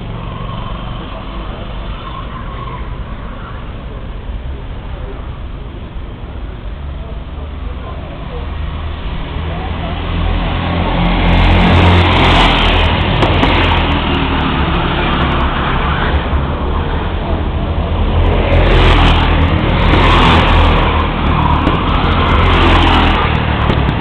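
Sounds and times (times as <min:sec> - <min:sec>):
go-kart engines racing: 0:00.0 - 0:24.0.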